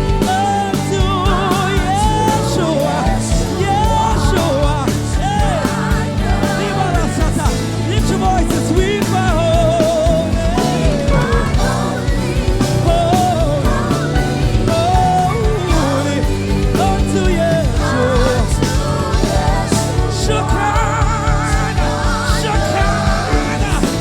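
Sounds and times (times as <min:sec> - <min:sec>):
drum kit: 0:00.0 - 0:24.0
live band playing worship song: 0:00.0 - 0:24.0
person singing wordless vocal runs: 0:00.0 - 0:24.0.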